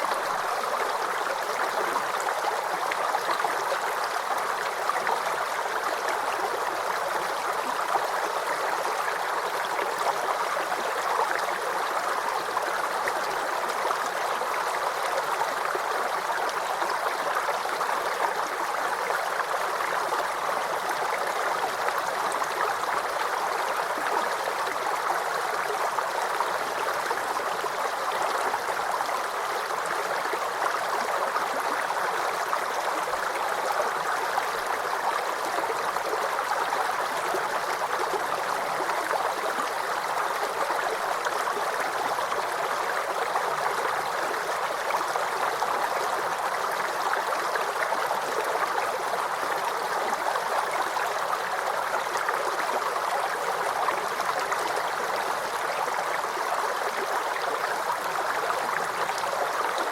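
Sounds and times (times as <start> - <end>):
creek babbling over stones: 0.0 - 59.9.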